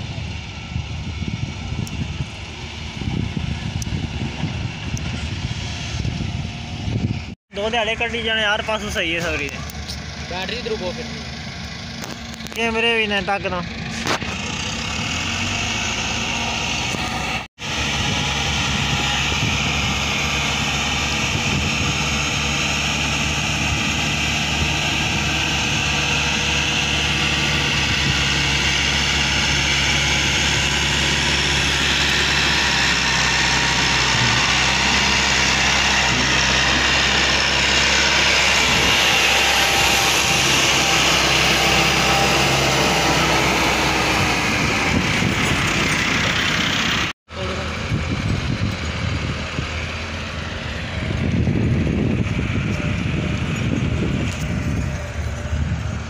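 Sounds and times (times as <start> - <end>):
diesel tractor engines running: 0.0 - 56.0.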